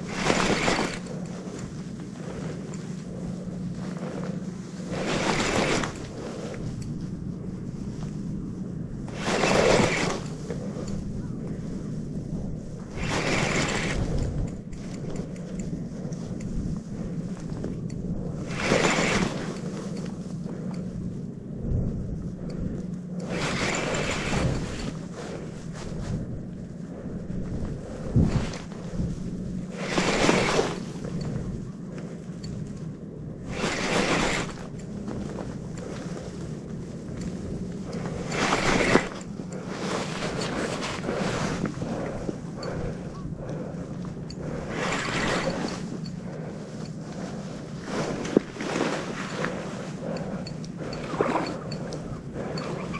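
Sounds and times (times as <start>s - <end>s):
fishing reel gears whirring: 0.0s - 7.0s, 9.0s - 11.2s, 12.1s - 20.9s, 21.8s - 28.3s, 29.4s - 47.2s, 48.0s - 52.9s
low steady drone: 0.0s - 52.9s
wind buffeting microphone: 0.0s - 52.9s.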